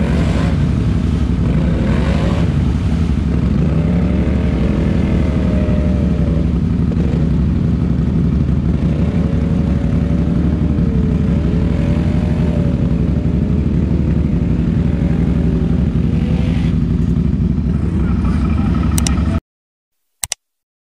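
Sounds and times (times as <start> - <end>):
quad engine revving in mud: 0.0 - 19.4.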